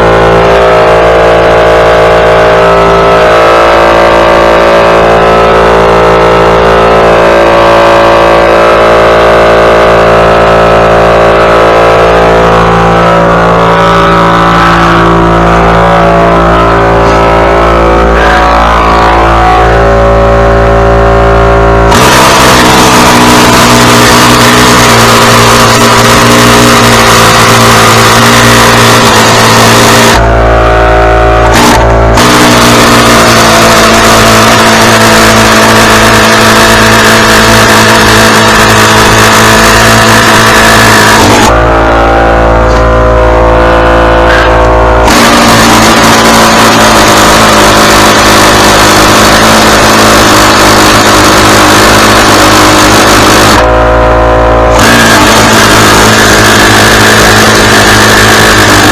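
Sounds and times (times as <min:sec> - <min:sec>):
small gasoline engine running: 0:00.0 - 0:41.9, 0:44.3 - 0:58.9.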